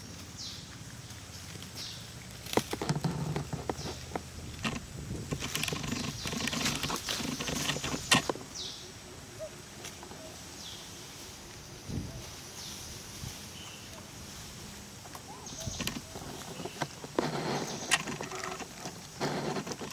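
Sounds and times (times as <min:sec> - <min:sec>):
dry leaves rustling and crackling: 0:00.0 - 0:19.9.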